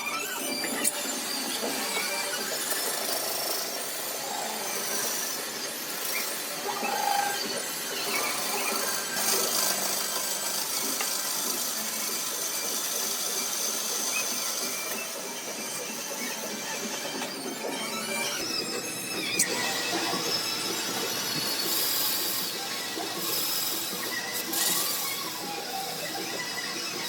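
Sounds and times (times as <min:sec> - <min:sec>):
power tool machining: 0:00.0 - 0:27.0.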